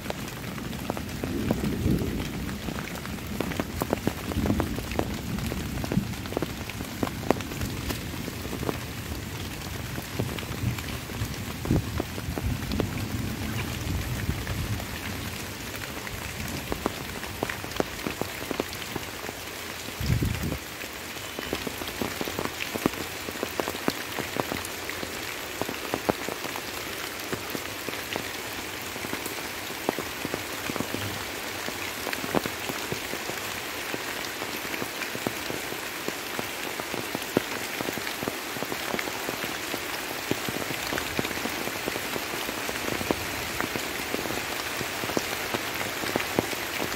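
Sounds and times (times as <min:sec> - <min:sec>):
light rain falling: 0:00.0 - 0:46.9
raindrops ticking: 0:00.0 - 0:46.9.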